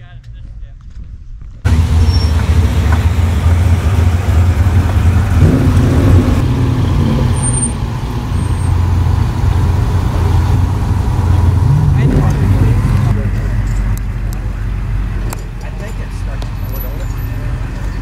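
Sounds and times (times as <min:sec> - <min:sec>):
car engine running: 0:01.7 - 0:18.0.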